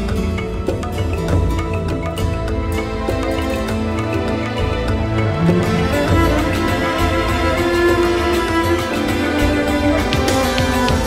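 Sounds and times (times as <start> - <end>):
instrumental music with held notes: 0.0 - 11.0
light percussive ticks: 0.0 - 11.0.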